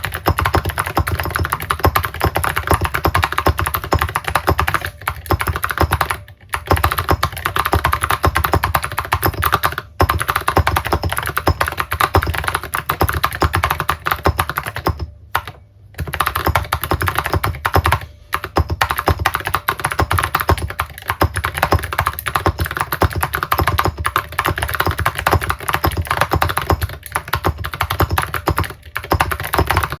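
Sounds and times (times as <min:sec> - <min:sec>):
typing on mechanical keyboard: 0:00.0 - 0:30.0.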